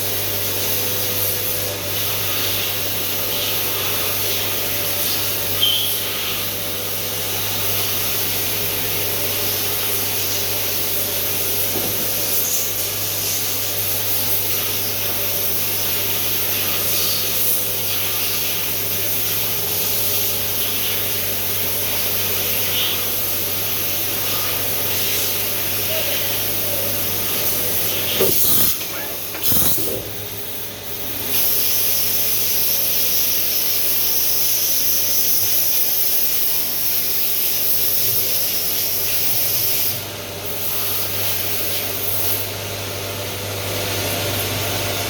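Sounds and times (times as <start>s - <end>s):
machine hum with hiss: 0.0s - 45.0s.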